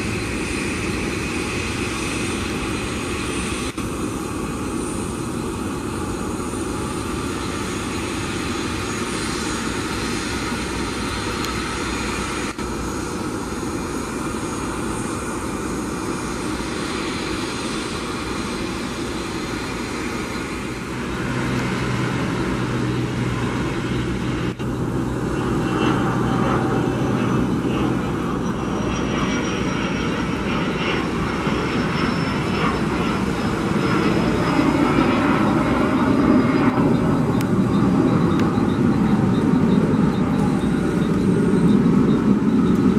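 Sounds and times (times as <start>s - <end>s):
high jet whine: 0.0s - 42.9s
jet engine noise: 0.0s - 42.9s.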